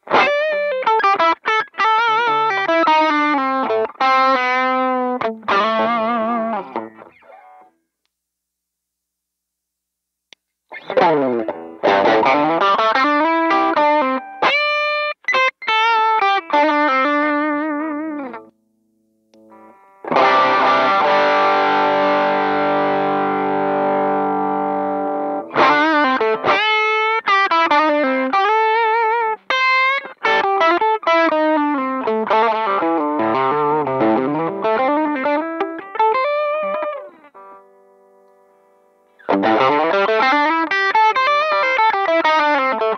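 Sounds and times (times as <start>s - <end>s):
overdriven electric guitar: 0.0s - 7.7s, 10.7s - 18.6s, 19.3s - 42.9s.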